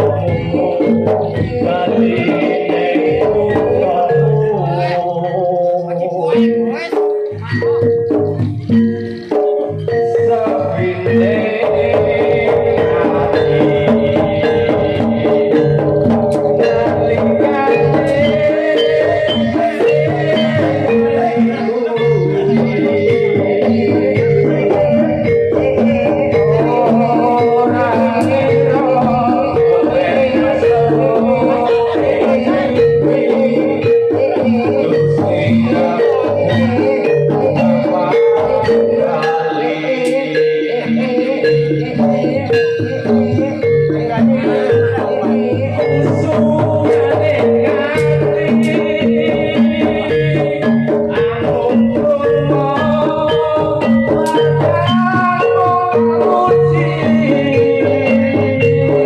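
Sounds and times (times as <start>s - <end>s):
struck pitched percussion music: 0.0s - 59.0s.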